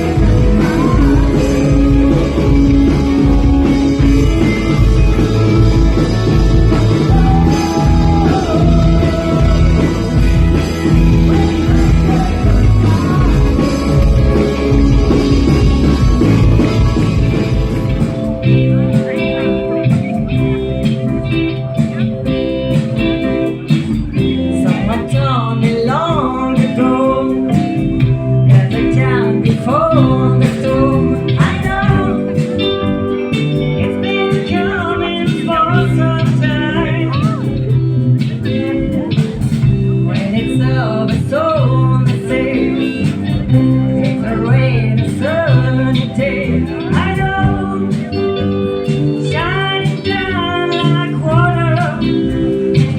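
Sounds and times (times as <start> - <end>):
band music: 0.0 - 52.9
lead guitar with bending notes: 0.0 - 52.9.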